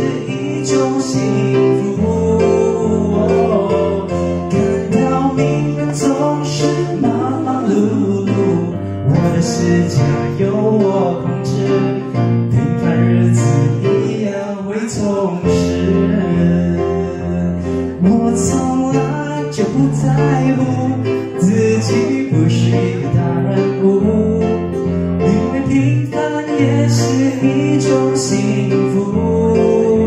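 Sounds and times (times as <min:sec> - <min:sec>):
electronic keyboard: 0:00.0 - 0:30.0
man singing a slow ballad: 0:00.0 - 0:30.0.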